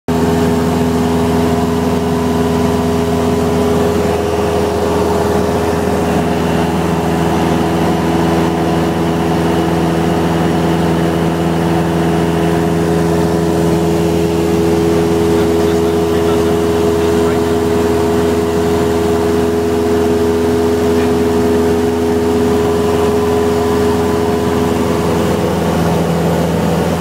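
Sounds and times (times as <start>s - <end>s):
light plane engine droning: 0.1s - 27.0s.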